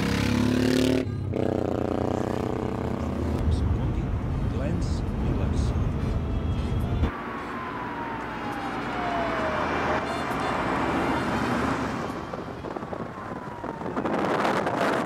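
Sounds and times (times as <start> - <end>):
road and wind noise: 0.0 - 15.0
engine whine: 1.3 - 15.0.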